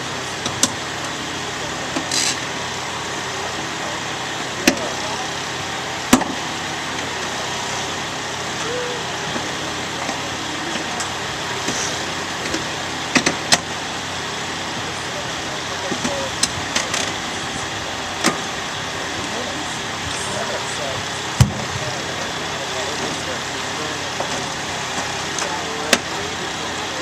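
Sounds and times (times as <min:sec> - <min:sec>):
engine running: 0:00.0 - 0:27.0
faint voices: 0:00.0 - 0:27.0.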